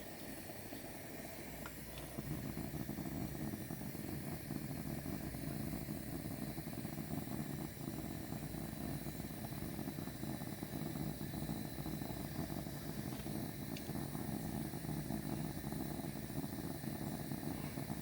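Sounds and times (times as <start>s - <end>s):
cutting torch flame hissing: 0.0s - 18.0s.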